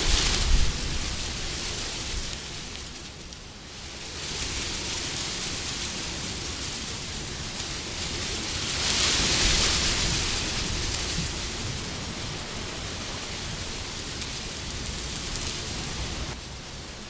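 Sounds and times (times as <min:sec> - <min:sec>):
wind blowing: 0:00.0 - 0:03.0, 0:04.0 - 0:17.0.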